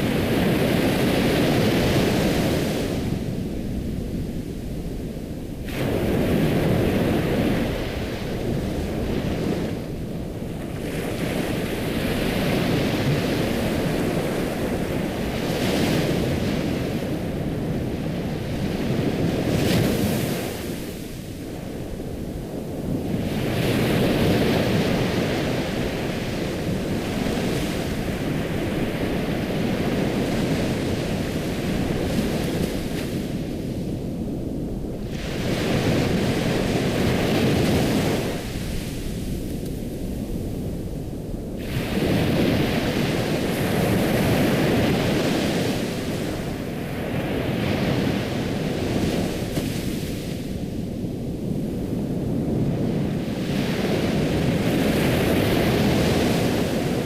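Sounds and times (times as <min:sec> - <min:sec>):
ocean waves breaking: 0:05.6 - 0:34.0, 0:34.7 - 0:57.0.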